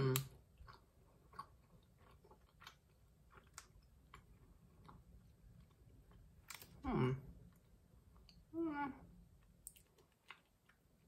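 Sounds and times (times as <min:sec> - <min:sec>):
person chewing: 0:00.0 - 0:08.5, 0:09.4 - 0:11.0.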